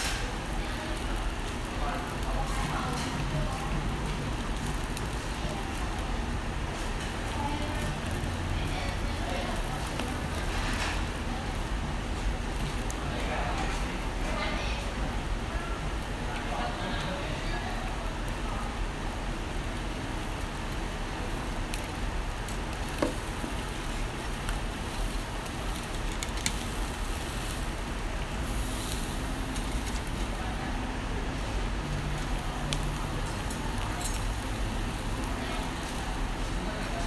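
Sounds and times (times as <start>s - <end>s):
charcoal crackles: 0.0s - 37.0s
fish sizzling on grill: 0.0s - 37.0s.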